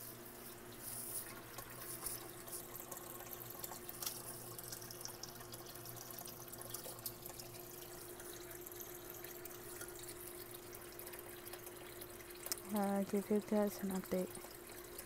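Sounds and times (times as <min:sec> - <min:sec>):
water trickling and splashing: 0:00.0 - 0:15.0
sharp drip-like ticks: 0:00.1 - 0:15.0.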